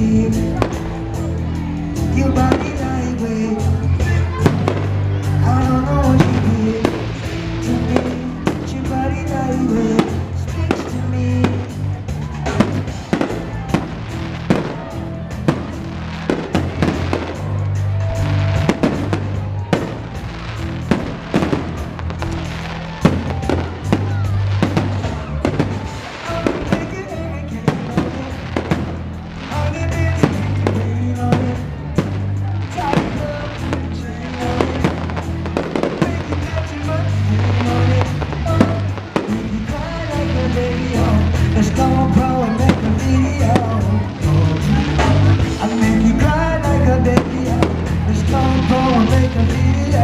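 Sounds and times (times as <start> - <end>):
fireworks bangs and crackles: 0.0 - 50.0
loud music with heavy bass: 0.0 - 50.0.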